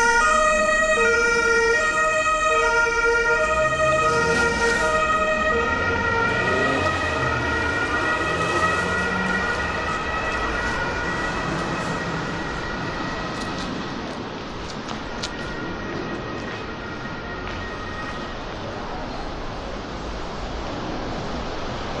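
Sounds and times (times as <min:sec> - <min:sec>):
two-tone emergency siren: 0:00.0 - 0:19.4
street traffic noise: 0:00.0 - 0:22.0.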